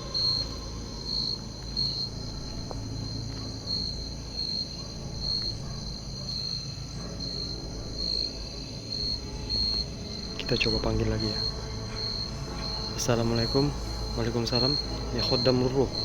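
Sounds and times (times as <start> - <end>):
night insect trilling: 0.0 - 16.0.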